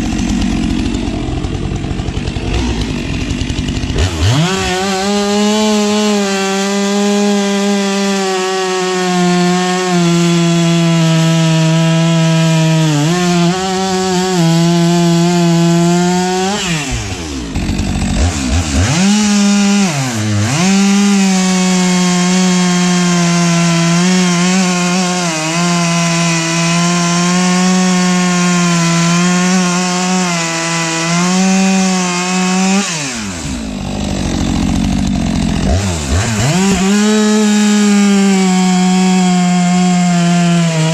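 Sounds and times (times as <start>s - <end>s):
chainsaw cutting logs: 0.0s - 40.9s.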